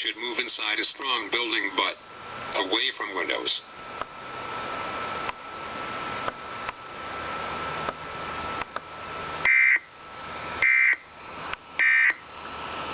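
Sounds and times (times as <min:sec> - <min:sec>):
receiver static hiss: 0:00.0 - 0:12.9.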